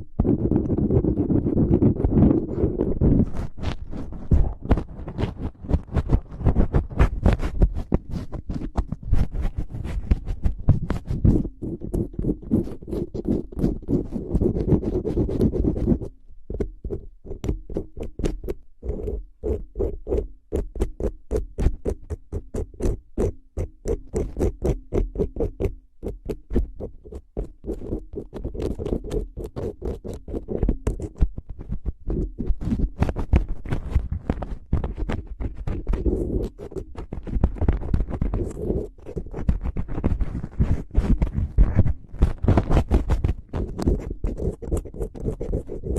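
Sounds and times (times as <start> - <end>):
taps and scratches: 0.0 - 45.9.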